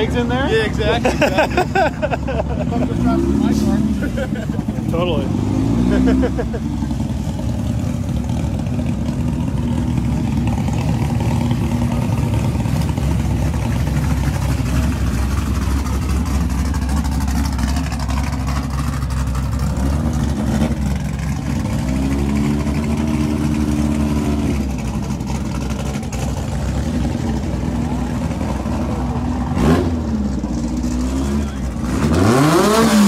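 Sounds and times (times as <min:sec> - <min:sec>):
car engines rumbling: 0:00.0 - 0:33.0
engine revving: 0:02.6 - 0:33.0.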